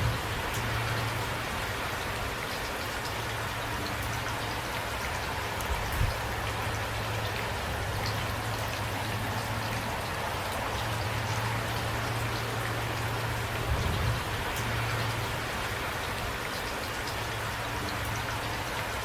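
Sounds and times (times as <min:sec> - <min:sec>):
raindrop ticks: 0:00.0 - 0:19.0
steady rain hiss: 0:00.0 - 0:19.0.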